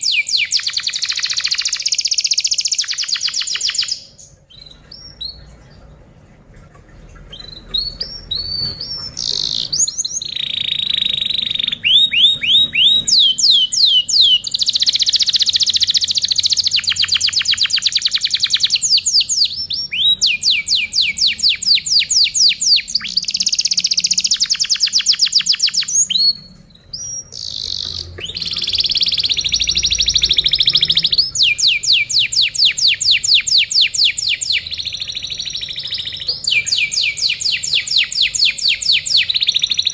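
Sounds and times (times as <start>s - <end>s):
canary singing fast trills: 0.0s - 5.9s, 7.2s - 39.9s.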